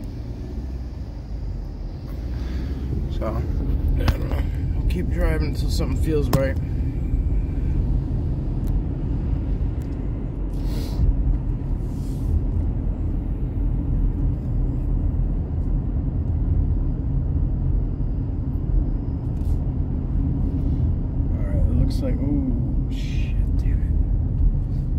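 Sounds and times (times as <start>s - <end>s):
car engine and tyres rumbling: 0.0s - 24.9s.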